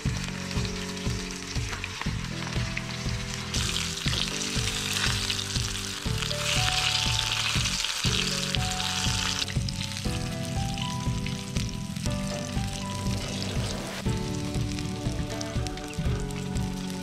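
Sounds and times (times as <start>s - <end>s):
background music with steady beat: 0.0s - 17.0s
meat deep-frying in grease: 0.0s - 17.0s.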